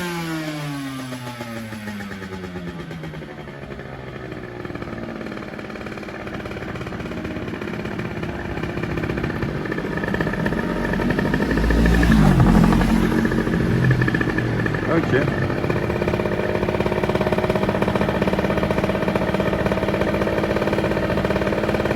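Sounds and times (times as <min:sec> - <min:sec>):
motorbike engine: 0:00.0 - 0:21.9.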